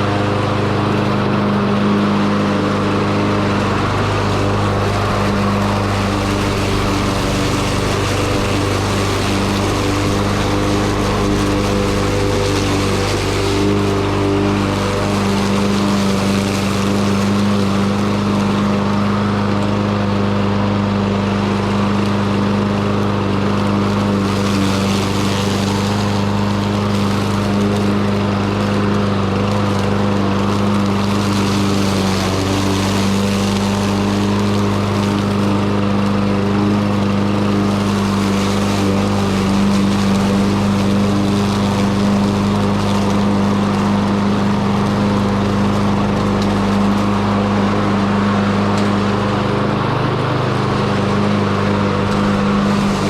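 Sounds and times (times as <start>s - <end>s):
lawn mower engine running: 0.0s - 53.0s.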